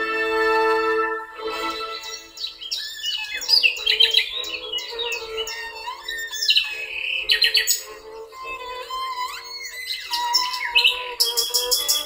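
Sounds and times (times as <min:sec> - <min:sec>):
soft background music: 0:00.0 - 0:12.0
birds singing: 0:01.3 - 0:12.0.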